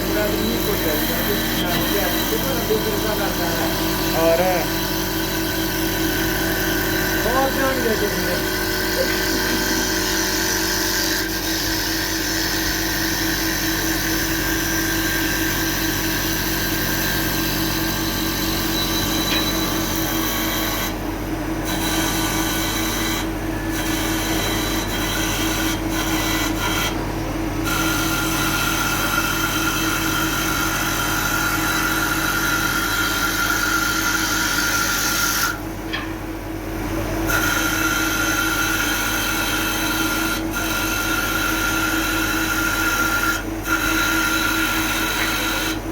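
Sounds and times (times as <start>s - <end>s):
wood lathe high whine: 0.0s - 35.7s, 37.2s - 45.9s.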